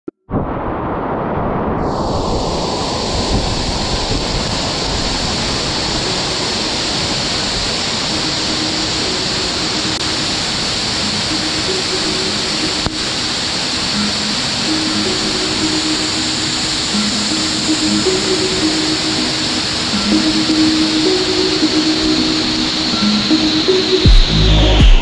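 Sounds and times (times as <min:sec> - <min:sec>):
waterfall rushing onto rocks: 0:01.8 - 0:25.0.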